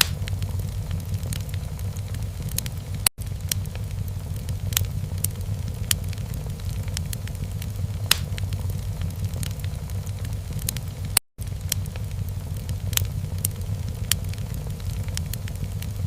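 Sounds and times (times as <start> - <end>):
log fire crackling and popping: 0.0 - 16.0.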